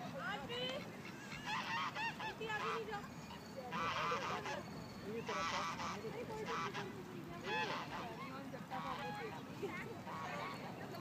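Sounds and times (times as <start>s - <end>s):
waterfowl harsh calls: 0.0s - 9.4s, 10.0s - 10.7s.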